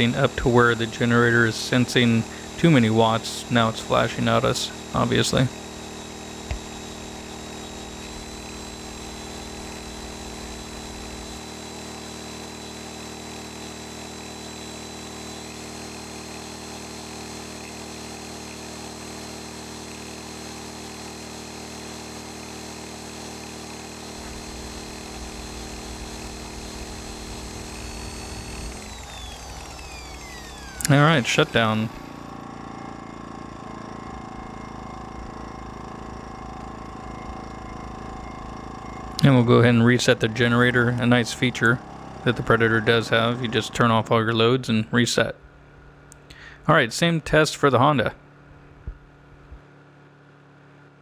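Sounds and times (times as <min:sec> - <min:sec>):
power tool whine: 0:00.0 - 0:46.8
generator engine running: 0:00.0 - 0:49.6.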